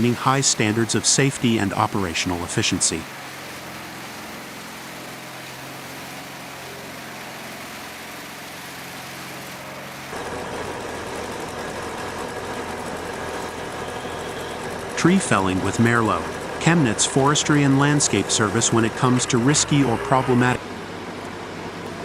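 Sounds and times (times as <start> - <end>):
heavy machine engine humming: 0.0 - 22.0
loud noisy machine running: 0.0 - 22.0.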